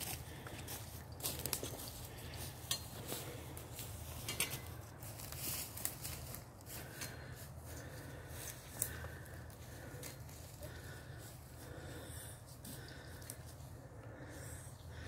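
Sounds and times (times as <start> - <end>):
footsteps crunching through dry leaves: 0.0 - 13.5.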